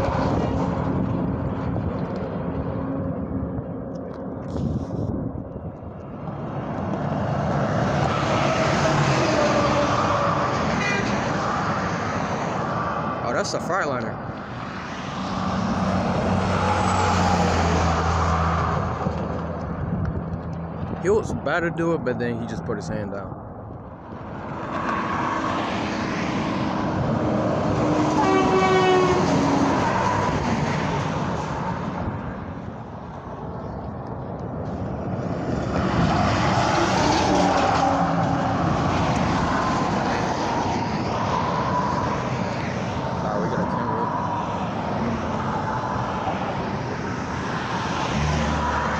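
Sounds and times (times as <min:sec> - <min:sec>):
truck passing by: 0:06.1 - 0:23.2, 0:24.1 - 0:48.9.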